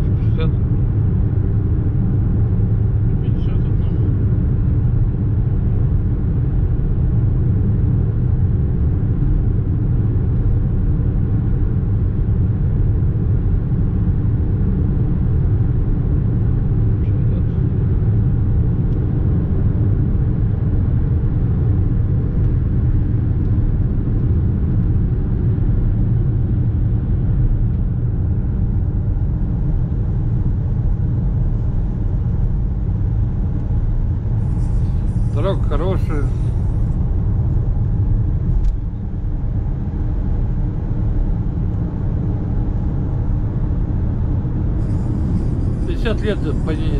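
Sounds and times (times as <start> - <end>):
road and engine rumble in car: 0.0 - 46.9.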